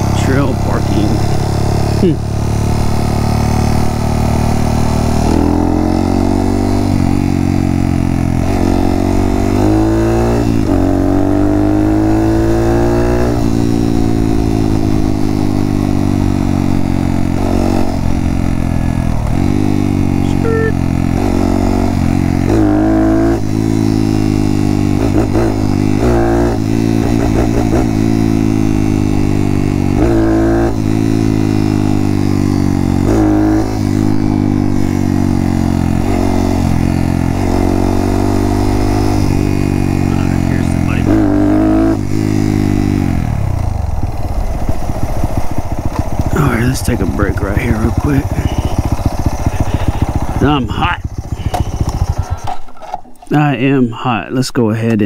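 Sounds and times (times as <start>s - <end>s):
motorcycle engine revving: 0.0s - 53.6s.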